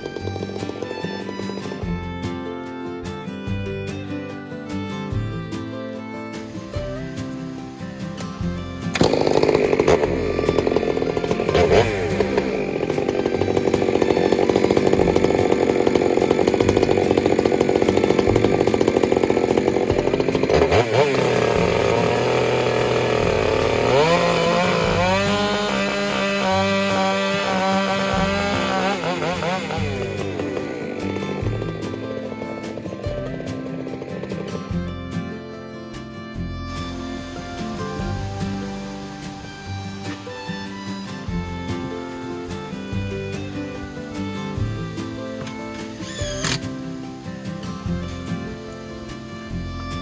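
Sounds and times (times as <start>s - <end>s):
chainsaw cutting logs: 0.0s - 50.0s
faint music: 0.0s - 50.0s.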